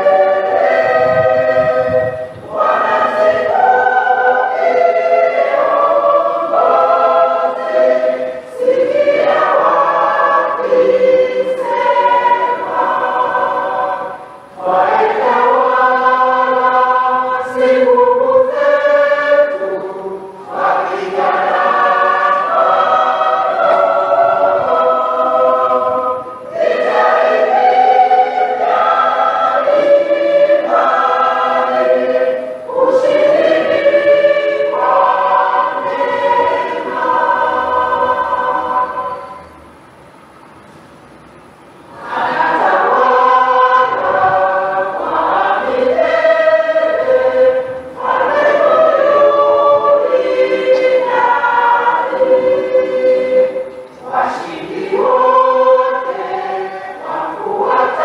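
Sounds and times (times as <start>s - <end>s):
choir singing a hymn: 0.0s - 39.8s, 41.8s - 58.0s.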